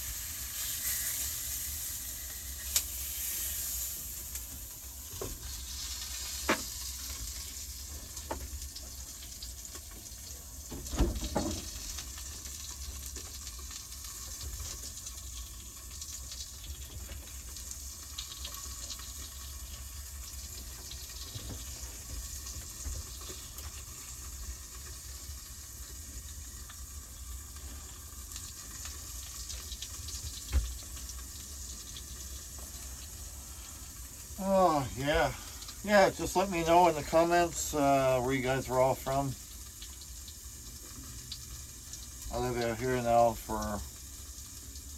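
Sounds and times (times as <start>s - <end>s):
sausages sizzling in a frying pan: 0.0s - 44.9s.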